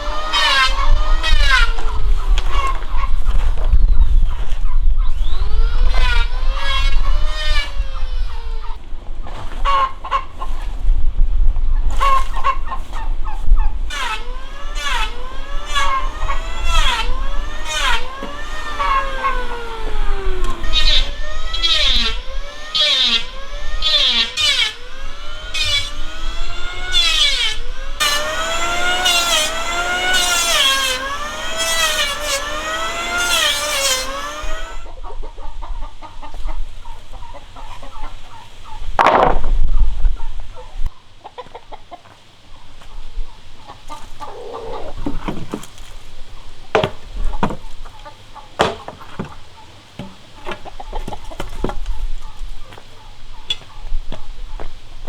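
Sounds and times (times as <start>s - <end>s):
chickens calling: 0.0s - 55.0s.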